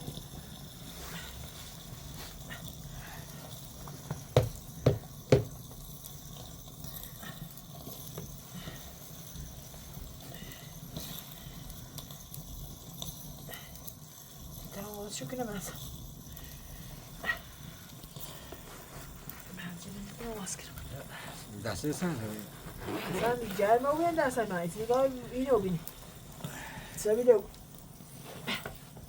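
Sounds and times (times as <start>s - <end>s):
low steady background noise: 0.0s - 29.0s.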